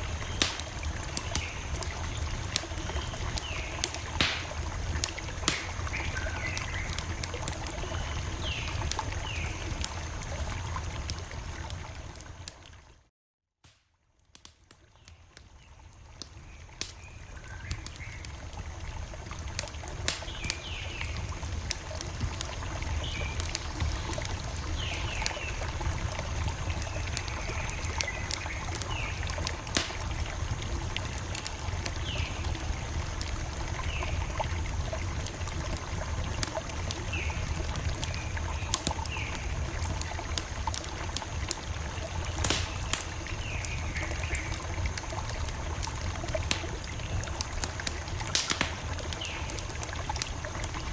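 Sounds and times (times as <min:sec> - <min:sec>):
campfire crackling and popping: 0:00.0 - 0:12.9, 0:13.7 - 0:50.9.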